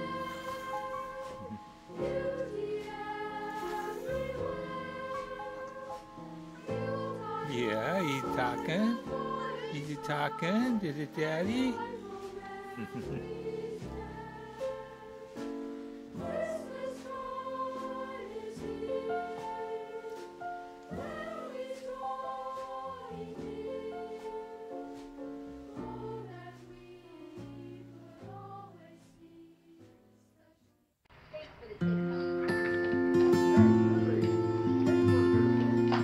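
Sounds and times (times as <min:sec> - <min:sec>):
choir singing slow sustained notes: 0:00.0 - 0:29.6.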